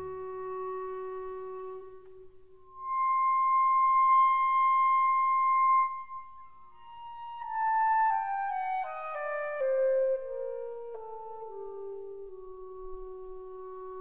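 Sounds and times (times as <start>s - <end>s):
woodwind instrument notes: 0.0s - 14.0s.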